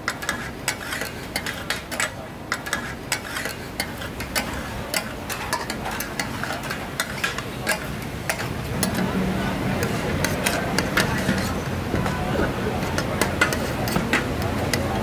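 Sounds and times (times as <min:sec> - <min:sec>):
metal spatulas clanking on griddle: 0:00.0 - 0:15.0.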